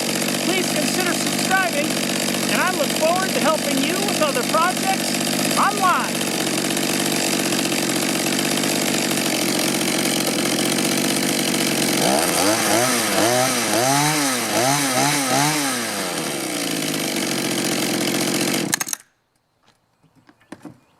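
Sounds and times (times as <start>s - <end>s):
tiller engine revving: 0.0s - 19.1s.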